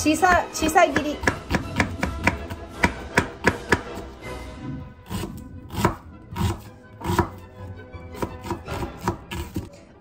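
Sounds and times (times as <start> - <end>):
knife chopping onion on board: 0.1 - 4.1, 5.1 - 7.5, 8.1 - 9.7.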